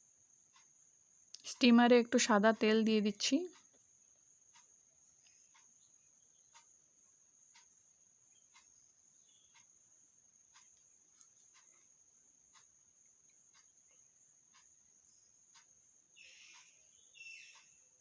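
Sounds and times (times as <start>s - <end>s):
soft ticks: 0.0s - 18.0s.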